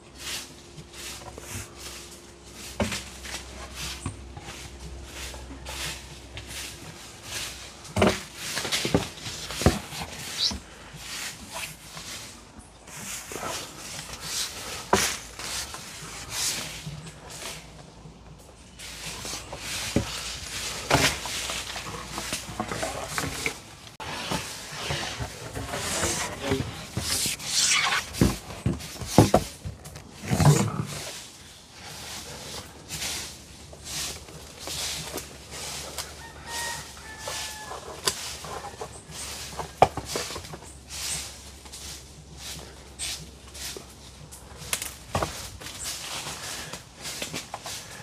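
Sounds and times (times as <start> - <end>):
leaves and branches rustling: 0.0 - 48.0.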